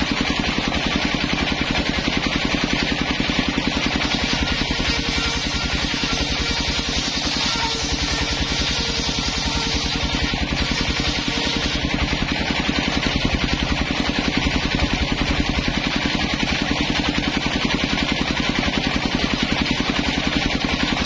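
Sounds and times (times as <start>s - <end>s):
table saw engine chugging: 0.0s - 21.0s.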